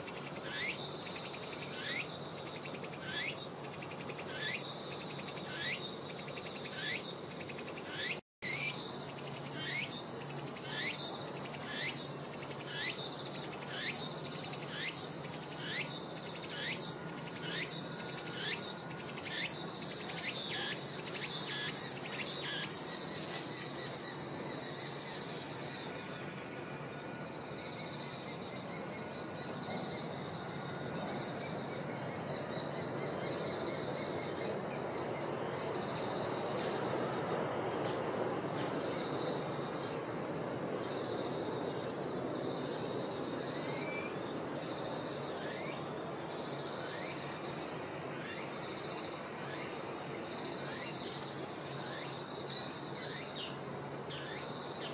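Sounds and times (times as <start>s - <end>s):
constant background wash: 0.0s - 54.9s
insects chirping in a pulsing trill: 0.0s - 54.9s.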